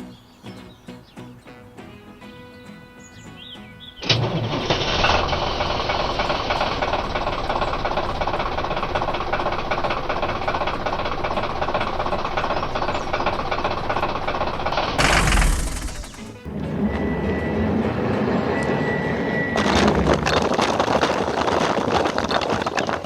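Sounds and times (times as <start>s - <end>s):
heavy machine engine rattling: 4.0s - 23.0s.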